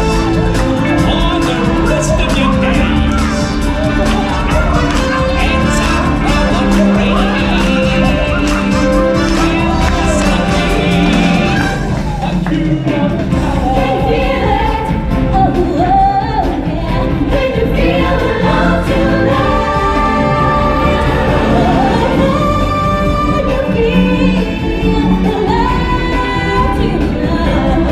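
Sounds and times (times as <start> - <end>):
band accompaniment: 0.0 - 27.9
group of voices singing: 0.0 - 27.9.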